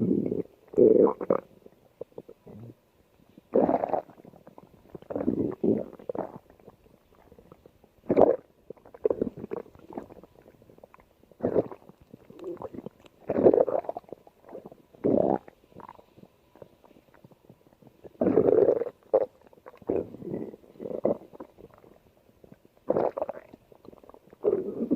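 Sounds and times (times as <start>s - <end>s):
stomach growling: 0.0s - 24.9s.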